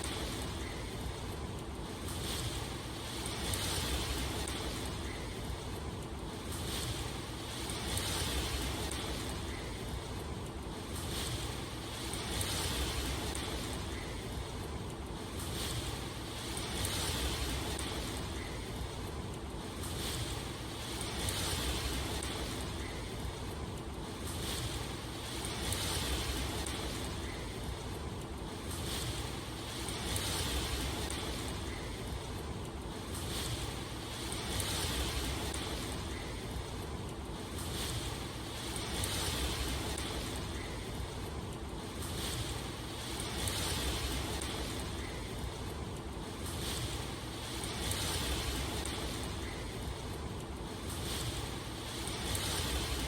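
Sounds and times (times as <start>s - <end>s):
constant low rumble: 0.0s - 53.0s
raindrop ticks: 0.0s - 53.0s
steady rain hiss: 0.0s - 53.0s.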